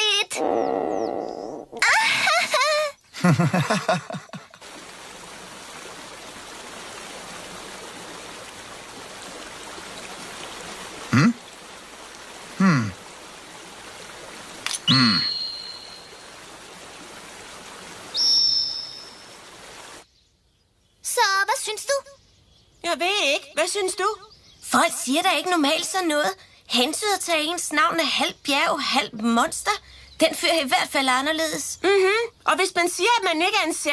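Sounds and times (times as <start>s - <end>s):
hiss-like background: 0.0s - 33.9s.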